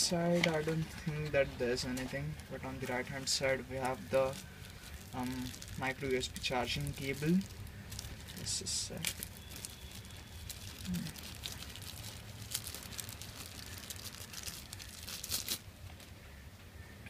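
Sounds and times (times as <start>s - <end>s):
plastic wrapping crinkling: 0.0s - 16.2s.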